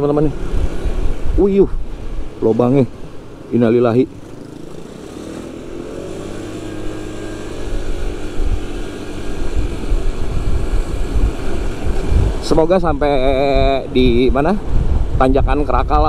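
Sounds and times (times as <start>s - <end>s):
scooter engine accelerating: 0.0s - 1.5s, 2.2s - 14.3s.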